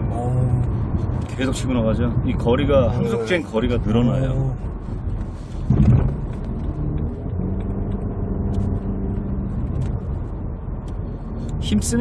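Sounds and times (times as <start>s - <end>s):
car engine hum: 0.0s - 12.0s
road and tyre noise: 0.0s - 12.0s.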